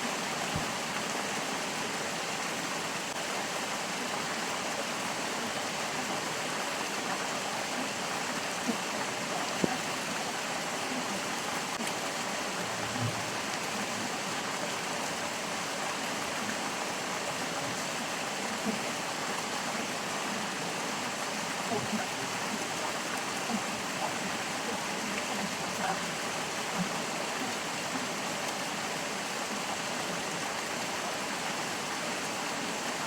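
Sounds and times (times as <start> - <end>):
stream water rushing: 0.0 - 33.0.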